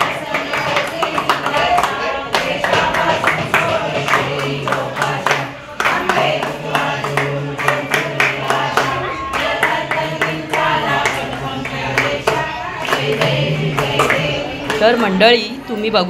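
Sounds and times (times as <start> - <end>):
group clapping in time: 0.0 - 15.2
devotional singing: 0.0 - 15.6.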